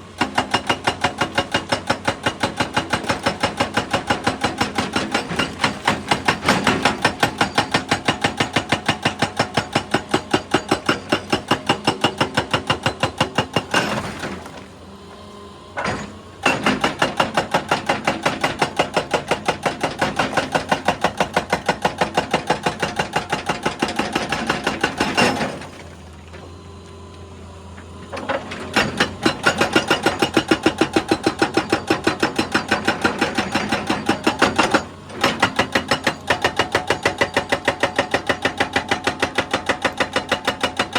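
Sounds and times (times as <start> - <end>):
hydraulic breaker hammering rock: 0.1 - 14.7, 15.8 - 26.0, 28.1 - 40.9.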